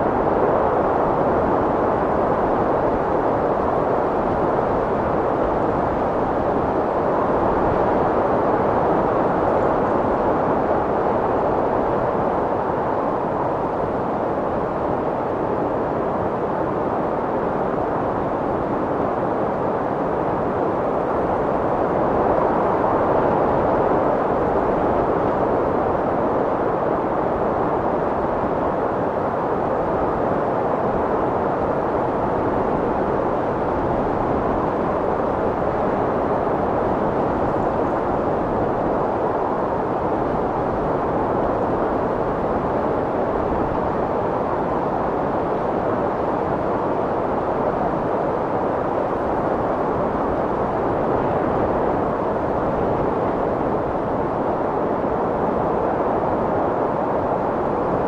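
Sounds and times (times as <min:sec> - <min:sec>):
strong wind blowing: 0:00.0 - 0:58.0.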